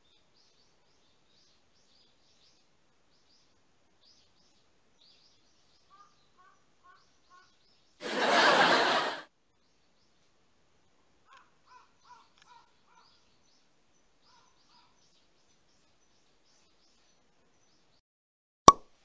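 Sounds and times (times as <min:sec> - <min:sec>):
faint birds chirping: 0:00.0 - 0:08.0, 0:09.4 - 0:18.0.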